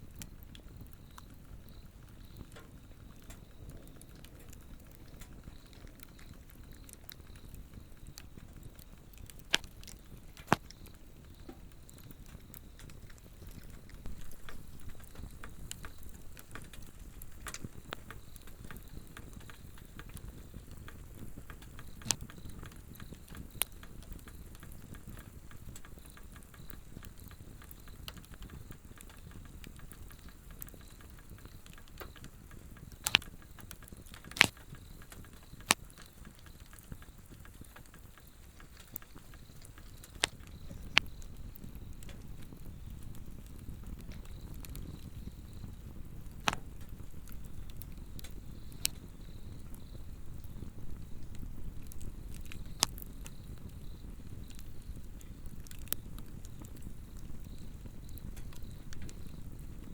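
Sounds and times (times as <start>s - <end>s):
insects trilling: 0.0s - 59.9s
log fire crackling and popping: 0.0s - 59.9s.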